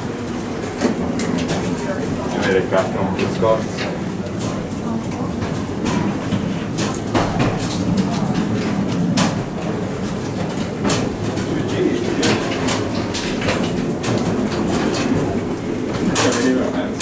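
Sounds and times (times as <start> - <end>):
footsteps of passengers walking: 0.0 - 17.0.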